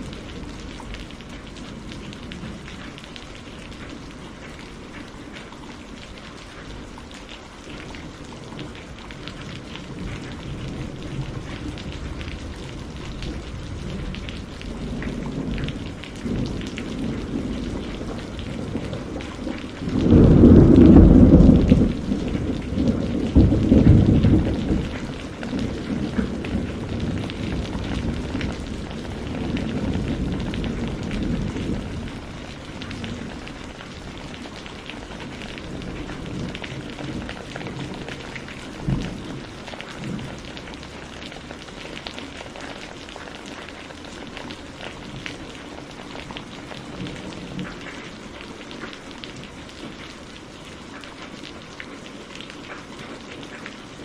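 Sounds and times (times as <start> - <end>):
thunder rumbling and cracking: 0.0 - 5.0, 7.7 - 50.0
rain falling: 0.0 - 54.0.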